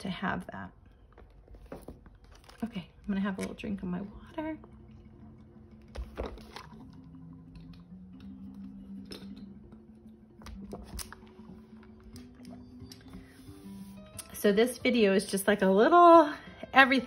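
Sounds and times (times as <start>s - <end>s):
faint piano music: 3.0s - 17.0s.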